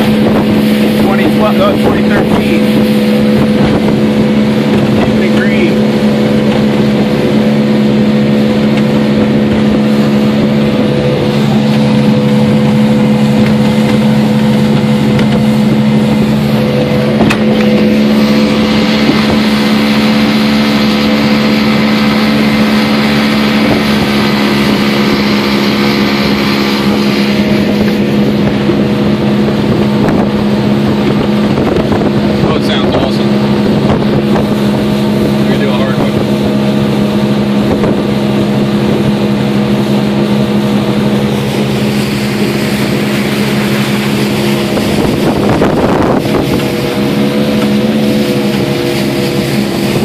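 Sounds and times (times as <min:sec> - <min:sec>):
outboard motor running: 0:00.0 - 0:50.0
rush of wind and water: 0:00.0 - 0:50.0.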